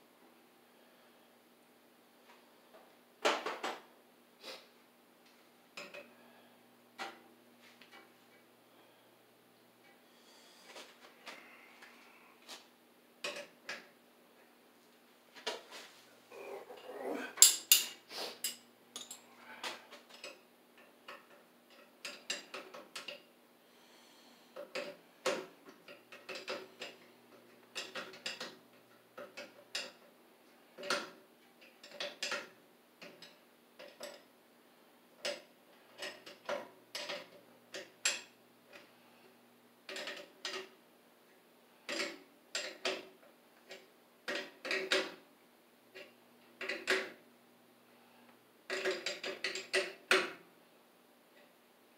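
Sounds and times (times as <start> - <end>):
faint steady hum: 0.0 - 51.9.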